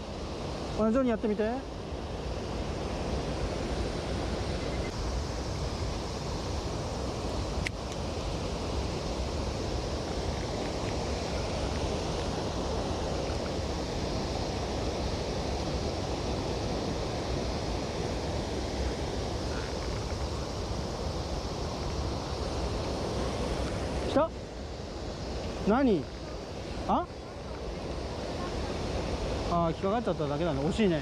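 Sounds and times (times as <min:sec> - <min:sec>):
mountain stream rushing: 0:00.0 - 0:31.0.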